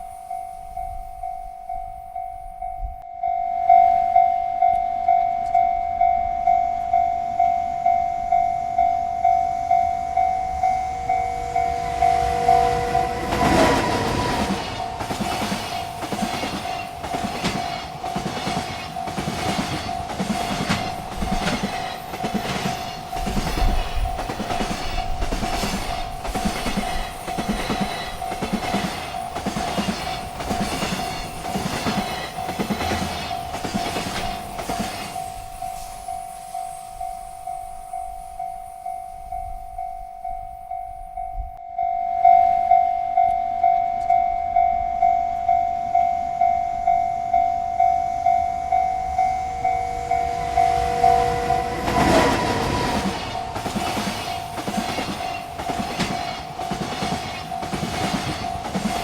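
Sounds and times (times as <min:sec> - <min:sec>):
railroad crossing bell ringing: 0:00.0 - 0:59.0
train wheels clacking: 0:04.6 - 0:40.6, 0:45.0 - 0:59.0.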